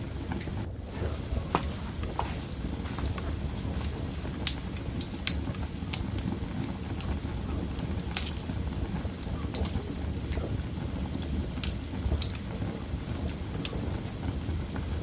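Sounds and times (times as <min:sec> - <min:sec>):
fire flames rumbling: 0:00.0 - 0:15.0
wood fire crackles and pops: 0:00.0 - 0:15.0.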